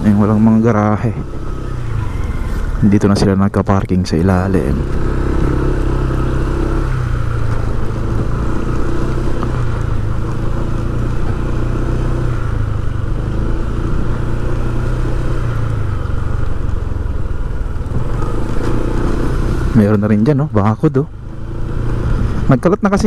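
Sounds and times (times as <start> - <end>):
street traffic: 0.0 - 23.0
vehicle engine running: 0.0 - 23.0.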